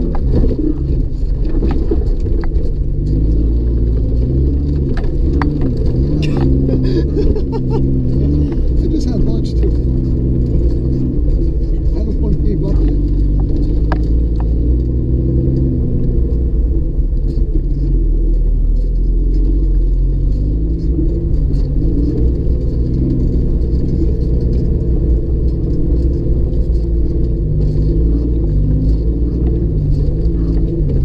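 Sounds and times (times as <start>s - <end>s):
engine and tyre rumble in cabin: 0.0s - 31.0s
light rattles: 0.0s - 31.0s.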